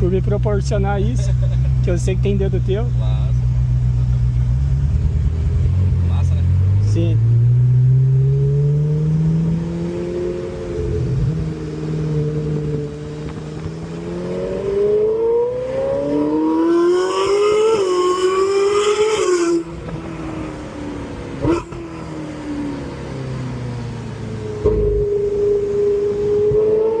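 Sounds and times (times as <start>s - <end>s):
lower engine sound: 0.0s - 27.0s
sports car engine accelerating: 0.0s - 27.0s.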